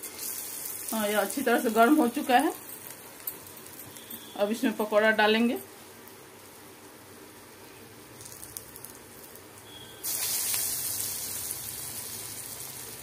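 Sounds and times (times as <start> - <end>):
batter sizzling in hot oil: 0.0 - 5.0, 5.9 - 13.0.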